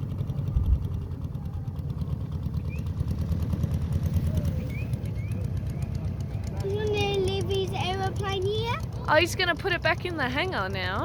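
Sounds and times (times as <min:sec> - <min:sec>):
model aeroplane engine running: 0:00.0 - 0:11.0.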